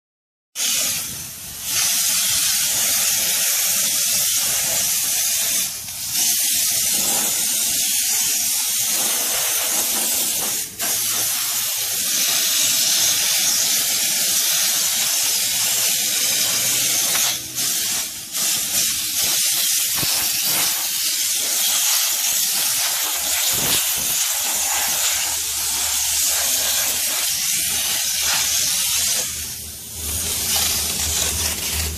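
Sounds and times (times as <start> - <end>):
steam cleaner hissing: 0.6 - 31.9.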